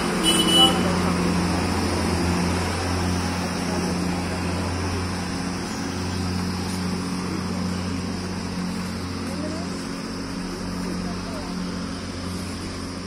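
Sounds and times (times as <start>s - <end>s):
street noise: 0.0s - 13.0s
vehicle engine running: 0.0s - 13.0s.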